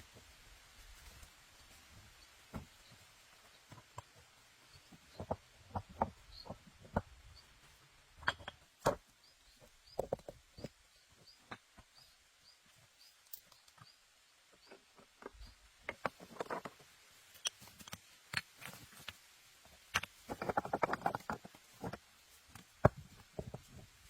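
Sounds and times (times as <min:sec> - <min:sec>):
knocks of branches and rocks: 0:00.1 - 0:12.1, 0:15.2 - 0:24.0.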